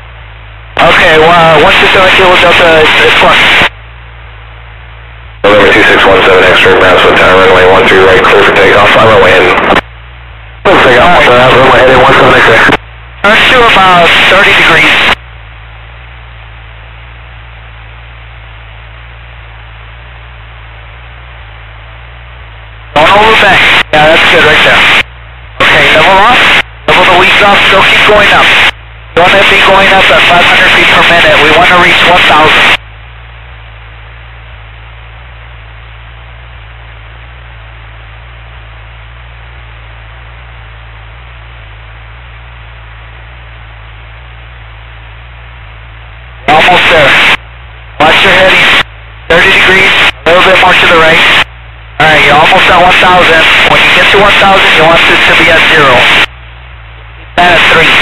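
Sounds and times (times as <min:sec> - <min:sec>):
aircraft engine drone in cabin: 0:00.0 - 0:58.0
low hum: 0:00.0 - 0:58.0
static hiss: 0:00.0 - 0:58.0.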